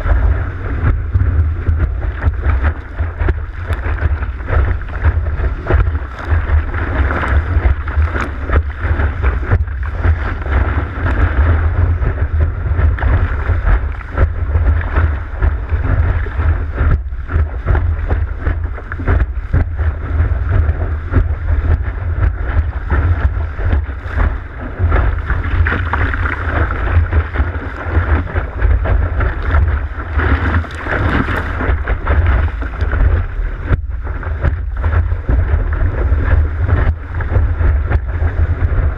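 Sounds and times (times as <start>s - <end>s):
water rushing and splashing: 0.0s - 38.9s
wind buffeting microphone: 0.0s - 38.9s.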